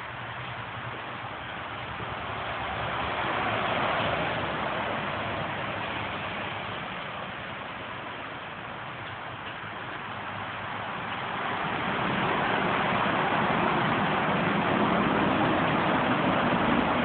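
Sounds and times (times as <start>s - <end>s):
road traffic tyre noise: 0.0s - 17.0s.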